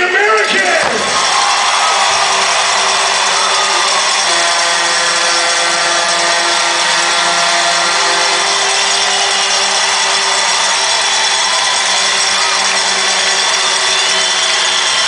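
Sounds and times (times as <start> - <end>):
crowd cheering: 0.0 - 15.0
droning tones: 1.9 - 15.0.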